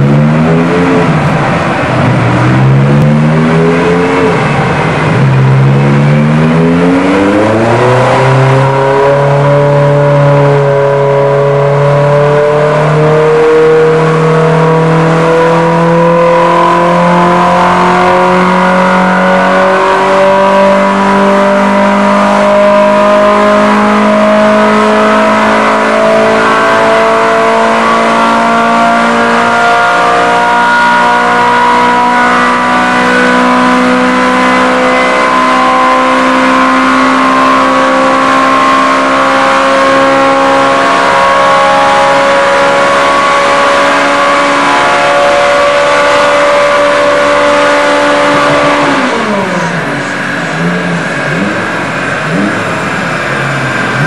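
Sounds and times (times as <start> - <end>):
car engine revving on dynamometer: 0.0 - 54.0.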